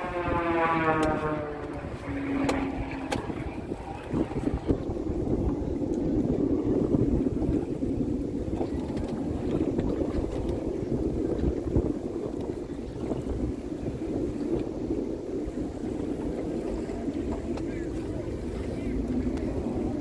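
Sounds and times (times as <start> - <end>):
low boat rumble: 0.0 - 20.0
wind buffeting microphone: 0.0 - 20.0.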